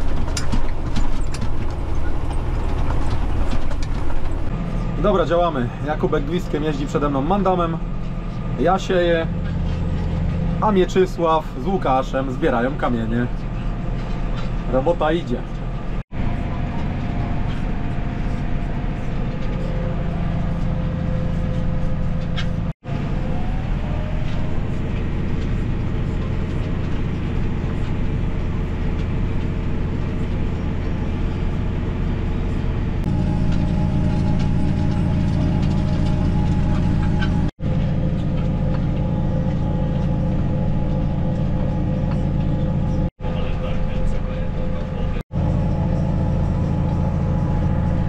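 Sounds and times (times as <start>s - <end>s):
tractor engine running under load: 0.0s - 48.0s.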